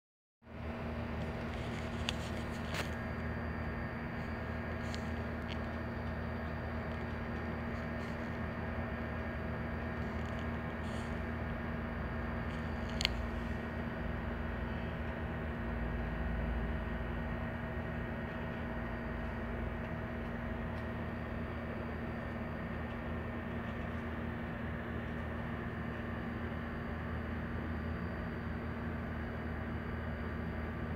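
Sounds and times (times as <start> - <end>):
steady machine hum: 0.4 - 30.9.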